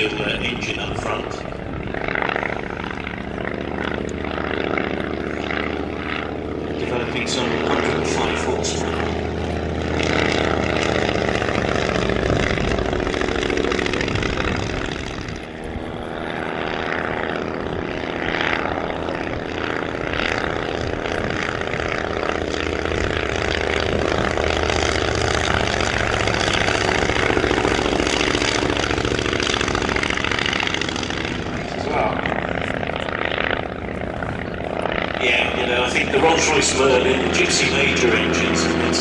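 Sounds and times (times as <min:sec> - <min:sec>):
aircraft propeller engine drone: 0:00.0 - 0:39.0.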